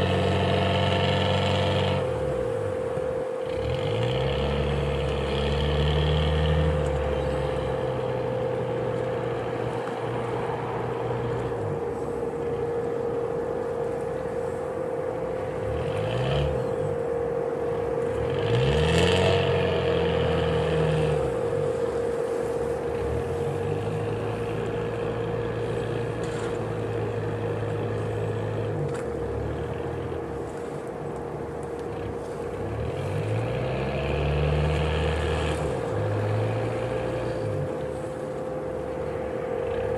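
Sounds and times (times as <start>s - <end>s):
boat engine running at low speed: 0.0s - 39.9s
steady high whine: 0.0s - 39.9s.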